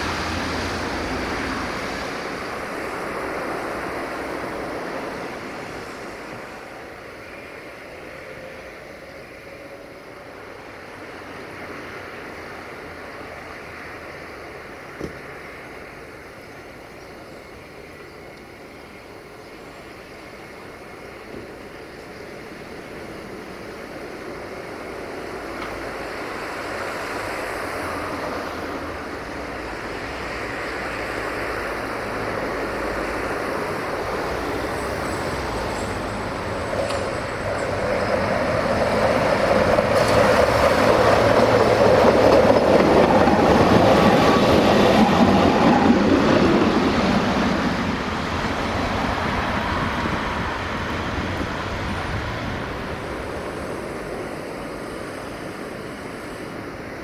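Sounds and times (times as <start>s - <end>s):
street traffic: 0.0s - 57.0s
tram running on rails: 0.0s - 57.0s.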